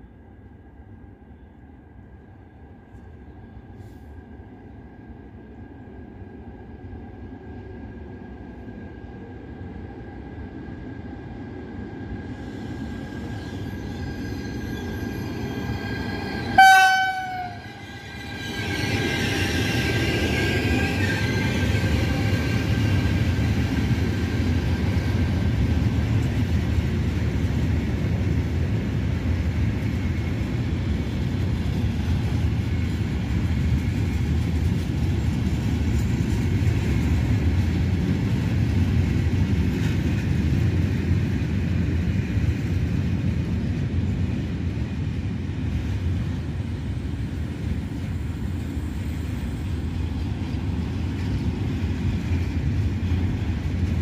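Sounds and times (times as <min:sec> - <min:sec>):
train wheels rumbling on rails: 0:03.7 - 0:54.0.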